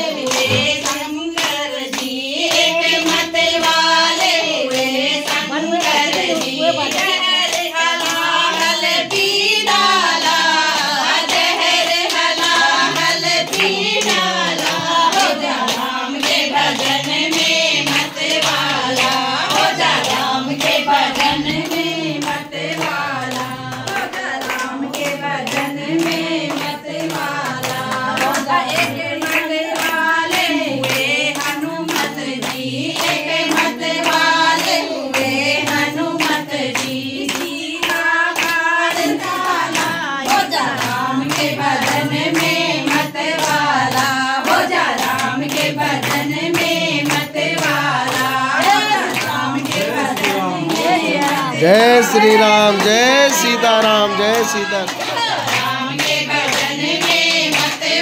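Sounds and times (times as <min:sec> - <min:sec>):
rhythmic hand clapping: 0:00.0 - 0:58.0
women singing together: 0:00.0 - 0:58.0.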